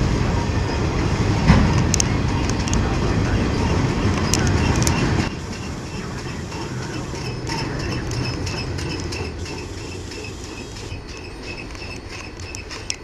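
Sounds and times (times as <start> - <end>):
steel wheels rumbling on rail: 0.0 - 13.0.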